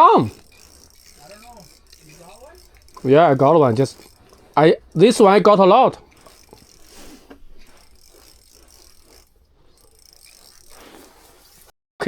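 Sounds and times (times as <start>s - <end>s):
fishing reel clicking: 0.0s - 11.7s.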